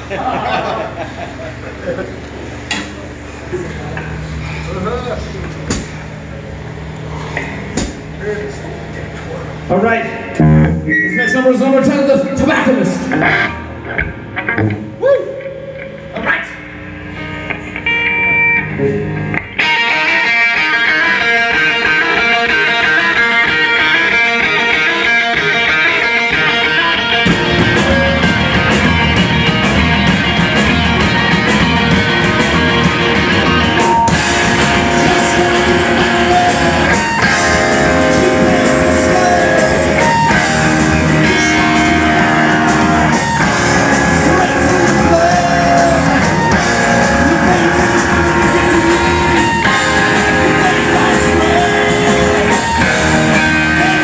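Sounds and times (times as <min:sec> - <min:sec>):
electric guitars: 0:00.0 - 0:54.0
drums: 0:05.4 - 0:09.7, 0:12.1 - 0:54.0
live rock band: 0:10.3 - 0:54.0.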